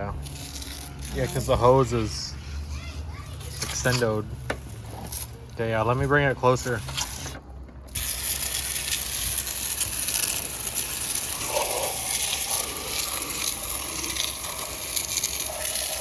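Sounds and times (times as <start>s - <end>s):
hose spraying water on metal: 0.2s - 2.2s, 3.4s - 16.0s.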